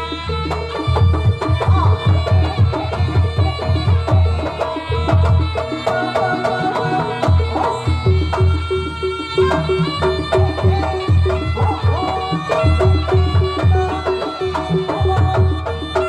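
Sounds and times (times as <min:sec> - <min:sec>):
hand drums beating: 0:00.0 - 0:16.0
pitched instruments melody: 0:00.0 - 0:16.0.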